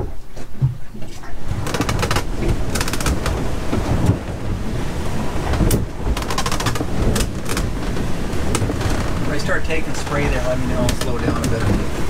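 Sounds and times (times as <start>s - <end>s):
boat engine and water rumble: 0.0s - 12.0s.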